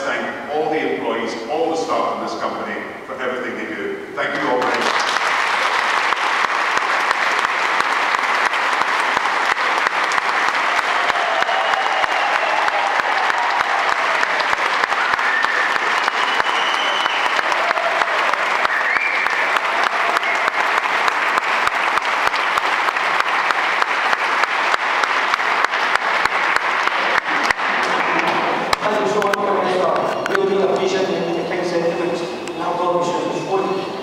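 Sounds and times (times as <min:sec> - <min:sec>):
crowd applauding: 0:04.3 - 0:34.0.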